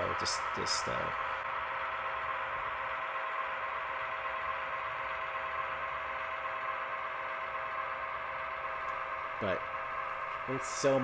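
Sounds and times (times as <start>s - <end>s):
model locomotive engine sound: 0.0s - 11.0s.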